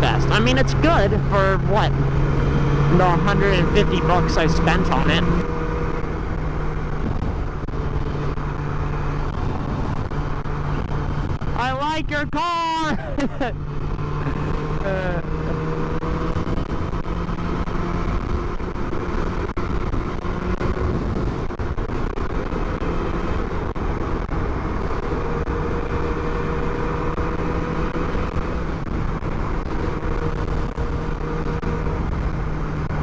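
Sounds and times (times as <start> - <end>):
motorcycle engine running: 0.0 - 33.0
wind rush on microphone: 4.6 - 11.8, 13.7 - 33.0.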